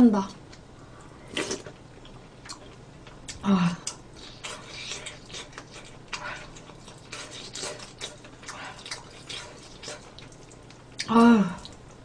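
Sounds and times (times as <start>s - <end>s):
wet chewing and mouth sounds: 0.3s - 12.0s.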